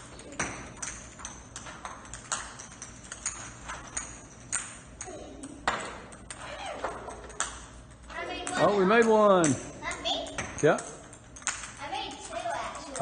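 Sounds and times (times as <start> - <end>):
plastic balls bouncing on tiled floor: 0.0 - 13.0.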